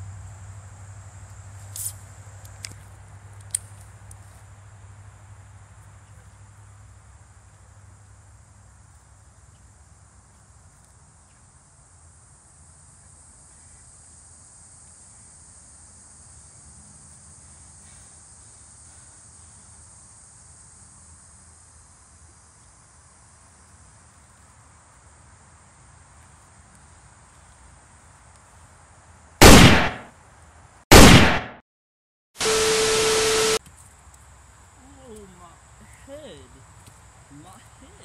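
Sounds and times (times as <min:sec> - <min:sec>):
insects chirring: 0:00.0 - 0:30.0, 0:32.4 - 0:38.0.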